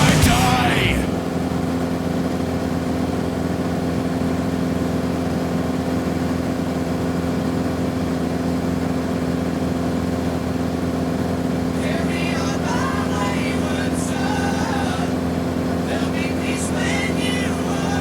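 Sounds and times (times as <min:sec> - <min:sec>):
light aircraft engine drone: 0:01.1 - 0:18.0.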